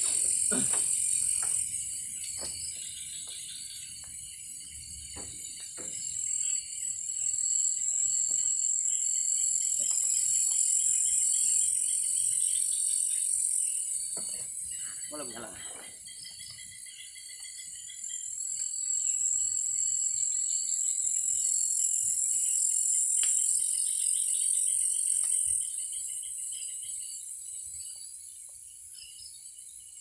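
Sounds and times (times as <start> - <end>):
night insects chorus: 0.0 - 30.0.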